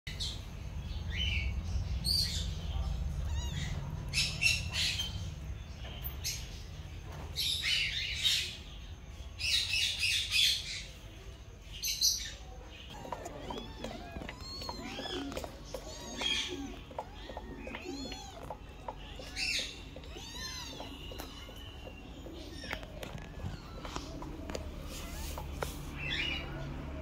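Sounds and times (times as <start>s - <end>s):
caged birds chirping and squawking: 0.1s - 27.0s.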